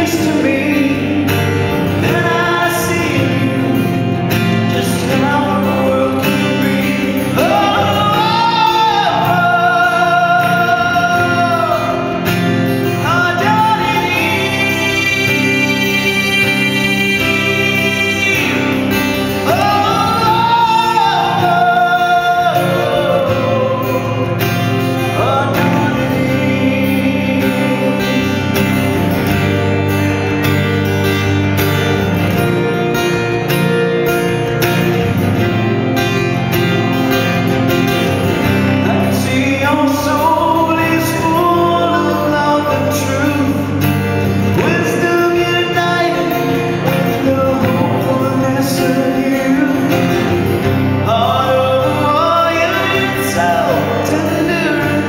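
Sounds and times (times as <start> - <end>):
man singing: 0.0 - 30.4, 34.7 - 55.0
acoustic guitar: 0.0 - 55.0.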